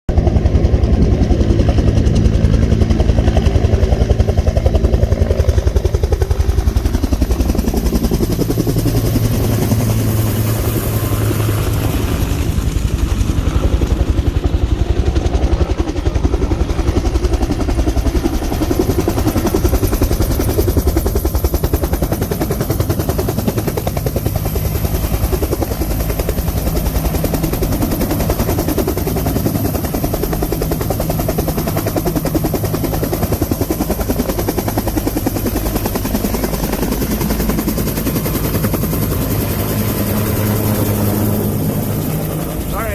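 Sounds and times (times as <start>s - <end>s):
helicopter rotor chopping: 0.1s - 42.9s.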